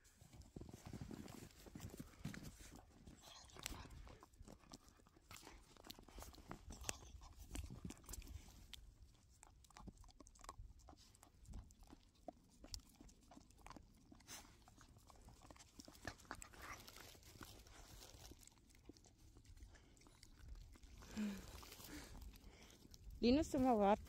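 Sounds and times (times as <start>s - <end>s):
dogs licking wet smacks: 1.2s - 23.6s.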